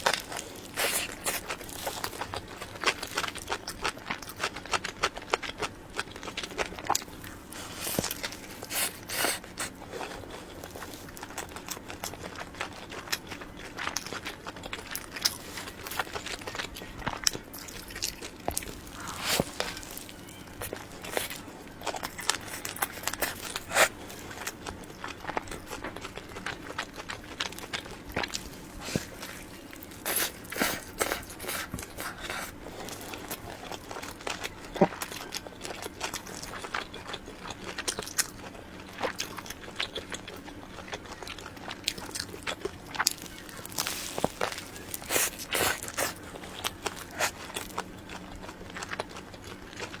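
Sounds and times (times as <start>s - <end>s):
close-miked chewing and mouth clicks: 0.0s - 50.0s.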